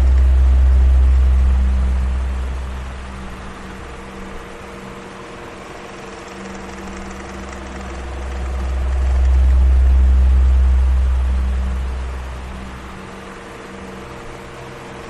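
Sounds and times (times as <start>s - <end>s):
low rumble: 0.0s - 5.6s, 6.3s - 15.0s
electric fan whirring: 0.0s - 15.0s.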